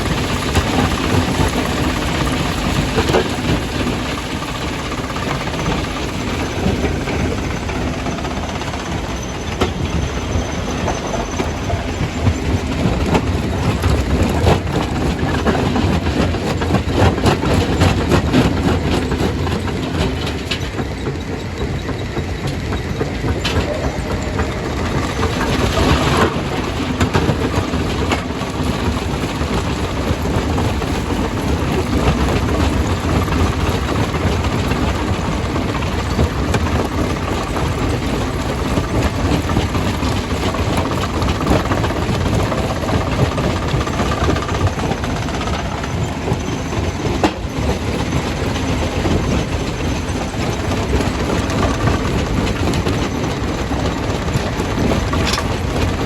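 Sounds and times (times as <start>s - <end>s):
stone crusher rumbling: 0.0s - 56.0s.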